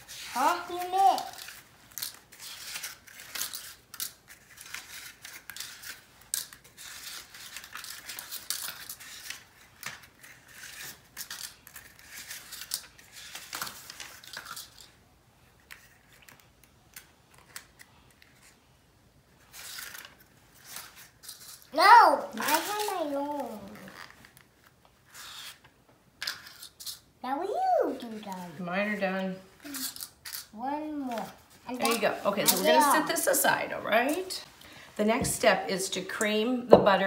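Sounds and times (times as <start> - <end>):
paper liners rustling and crinkling: 0.0 - 18.6, 19.3 - 27.1, 27.9 - 34.5.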